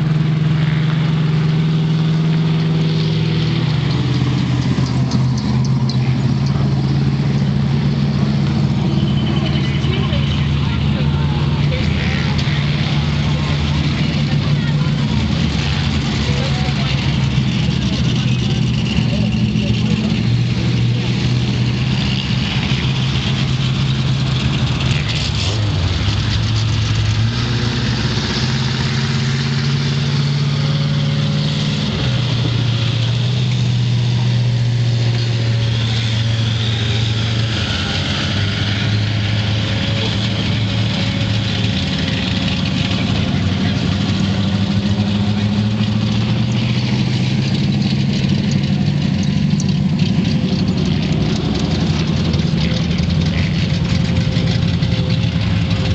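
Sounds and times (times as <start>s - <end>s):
race car engines revving: 0.0s - 55.9s.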